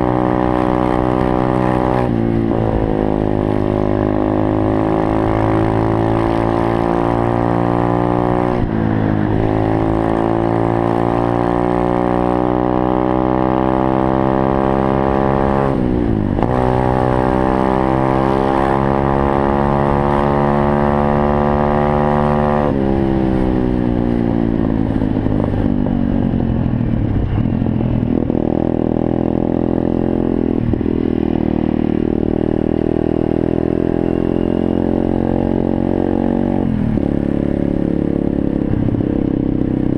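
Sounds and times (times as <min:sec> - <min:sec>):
motorbike engine accelerating: 0:00.0 - 0:39.9.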